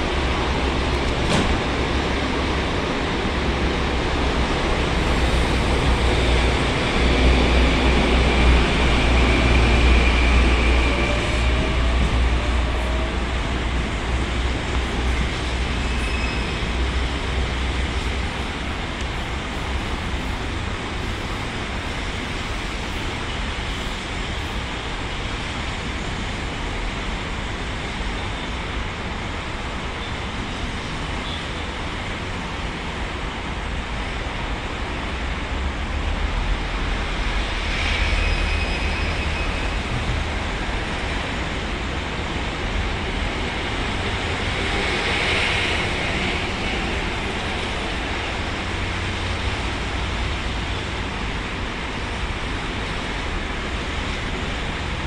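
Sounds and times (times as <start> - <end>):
electric train rumble: 0.0 - 55.0
road traffic: 0.0 - 55.0.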